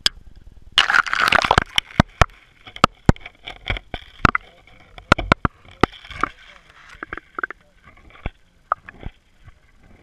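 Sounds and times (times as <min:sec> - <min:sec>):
sharp knocks and clicks underwater: 0:00.0 - 0:10.0.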